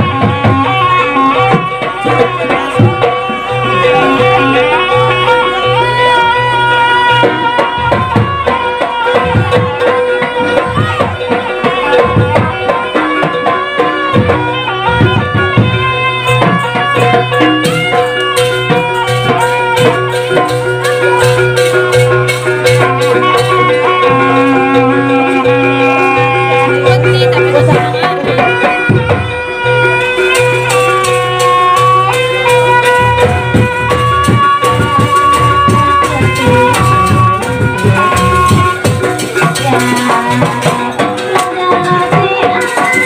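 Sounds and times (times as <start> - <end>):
fast hand drum strokes: 0.0 - 43.0
gamelan ensemble music: 0.0 - 43.0.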